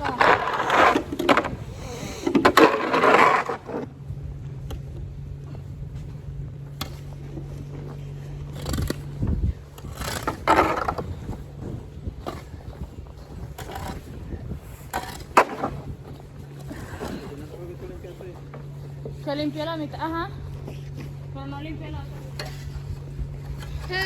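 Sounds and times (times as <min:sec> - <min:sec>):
snow shovel scraping pavement: 0:00.0 - 0:04.3, 0:05.4 - 0:19.6, 0:22.0 - 0:24.0
low steady hum: 0:00.0 - 0:24.0.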